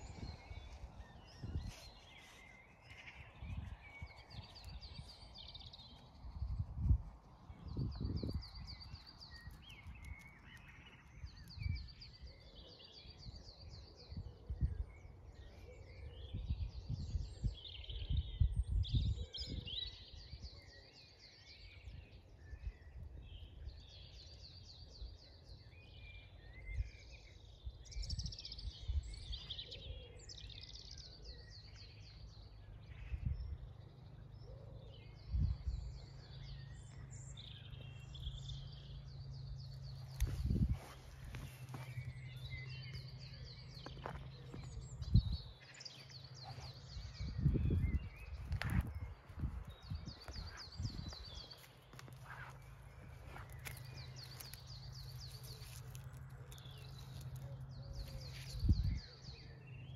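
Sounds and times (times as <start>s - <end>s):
garden birds singing: 0.0s - 59.9s.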